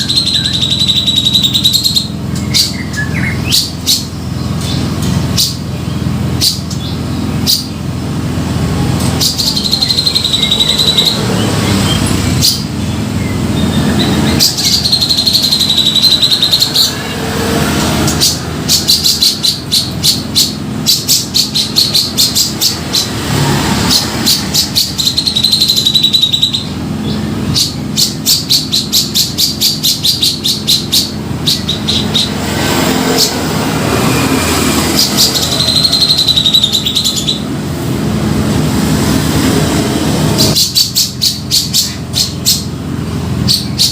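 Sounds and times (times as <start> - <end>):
bird calling loudly: 0.0 - 37.6, 40.3 - 43.9
rapid sharp bird chattering: 0.0 - 37.6, 40.3 - 43.9.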